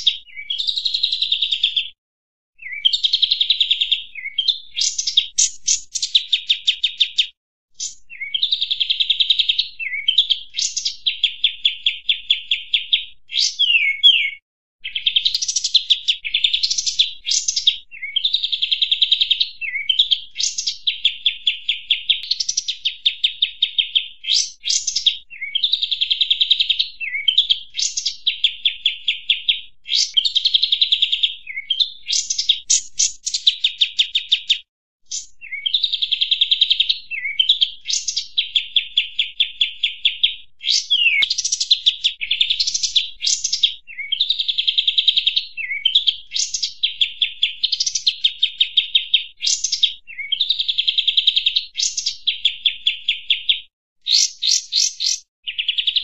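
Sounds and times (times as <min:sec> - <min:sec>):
birds trilling and chirping: 0:02.6 - 0:25.9, 0:26.5 - 0:50.6, 0:51.8 - 0:56.0.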